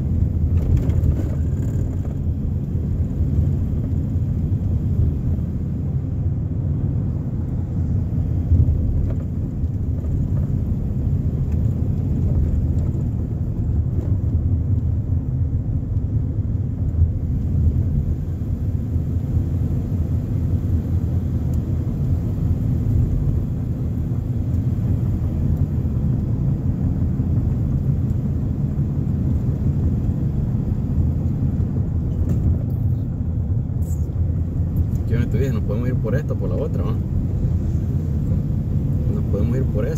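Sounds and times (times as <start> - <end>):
car engine rumble: 0.0 - 39.9
tyres on road: 0.0 - 39.9.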